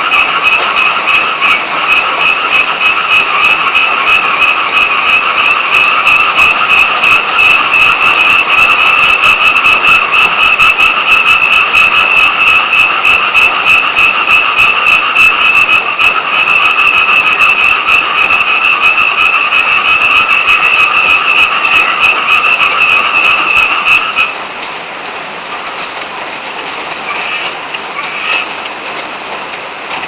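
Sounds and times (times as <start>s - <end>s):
frog chorus: 0.0s - 24.4s, 27.0s - 28.6s
rain pattering: 0.0s - 30.0s.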